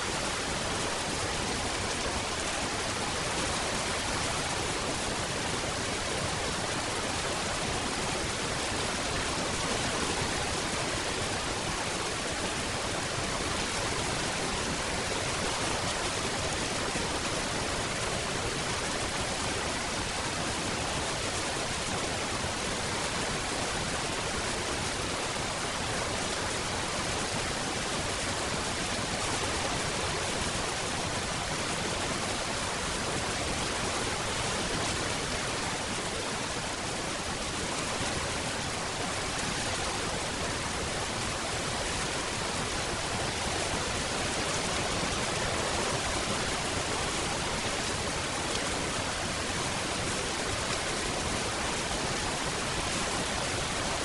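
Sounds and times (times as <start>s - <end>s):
rain hissing steadily: 0.0s - 54.0s.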